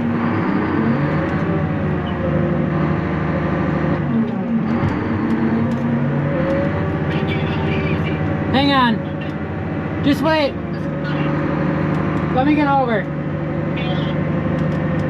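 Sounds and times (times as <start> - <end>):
loader engine straining: 0.0 - 15.0.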